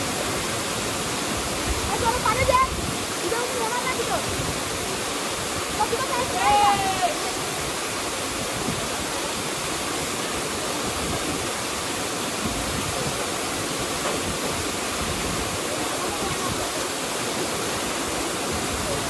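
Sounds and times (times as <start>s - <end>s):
waterfall water rushing: 0.0s - 19.0s.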